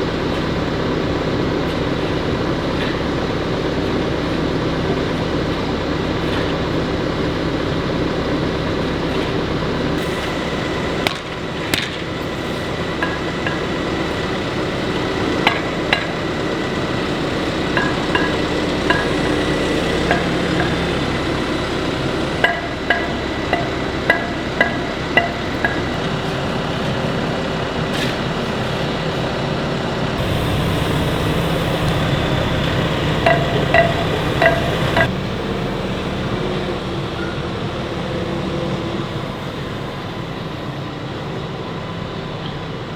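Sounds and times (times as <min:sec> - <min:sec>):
diesel excavator engine running: 0:00.0 - 0:42.9.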